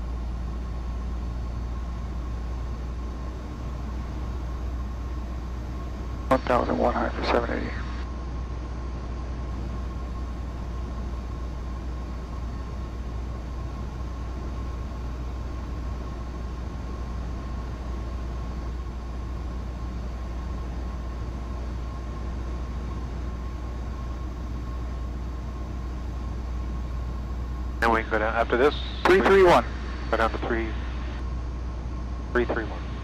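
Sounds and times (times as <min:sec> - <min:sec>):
faint steady whine: 0:00.0 - 0:33.0
propeller plane engine droning: 0:00.0 - 0:33.0.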